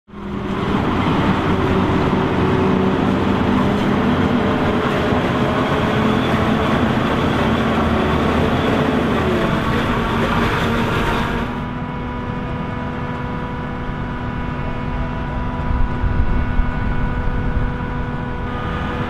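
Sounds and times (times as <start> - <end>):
diesel engines droning: 0.1 - 19.0
chopper rushing: 0.2 - 19.0.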